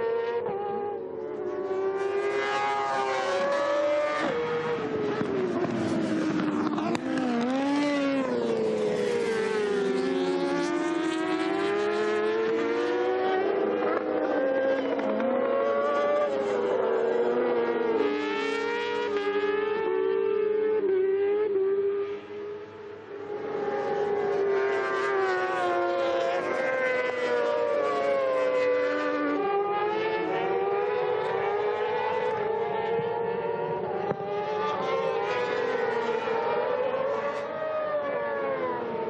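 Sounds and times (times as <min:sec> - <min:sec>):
racing motorcycle engines revving: 0:00.0 - 0:39.0.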